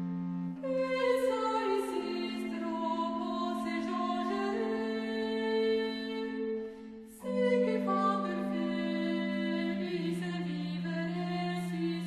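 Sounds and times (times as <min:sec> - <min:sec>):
slow melody: 0:00.0 - 0:12.0.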